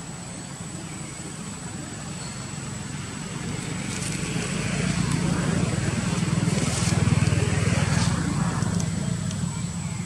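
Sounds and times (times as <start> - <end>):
motor engine running: 1.4 - 10.0.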